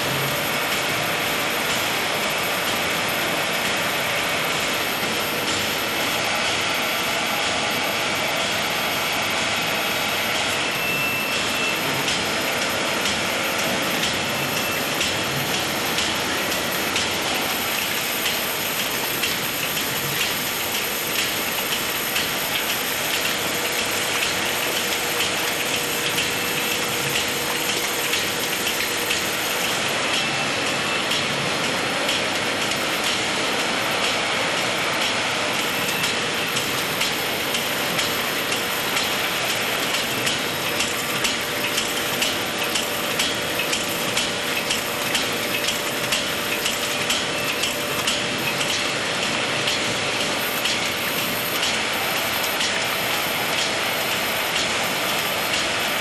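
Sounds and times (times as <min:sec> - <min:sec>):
conveyors running: 0:00.0 - 0:56.0.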